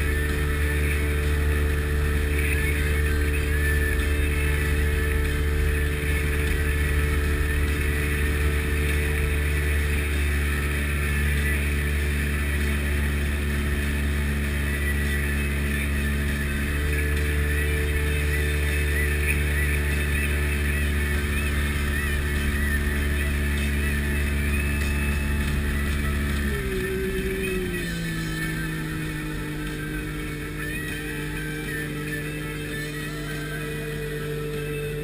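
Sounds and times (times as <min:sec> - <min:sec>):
jet boat engine running: 0:00.0 - 0:35.0.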